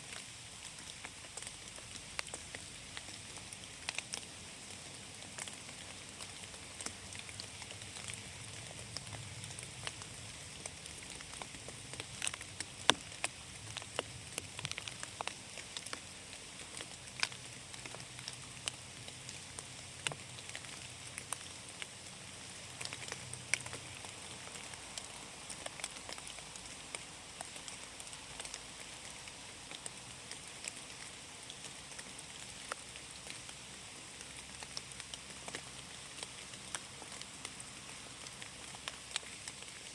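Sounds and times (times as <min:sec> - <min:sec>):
rain hissing in a forest: 0:00.0 - 0:39.9.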